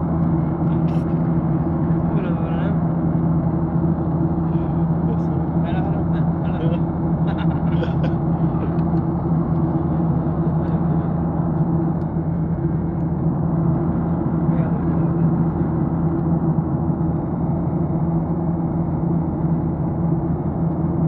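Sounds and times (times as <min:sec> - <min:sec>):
jet airliner cabin drone: 0:00.0 - 0:21.0.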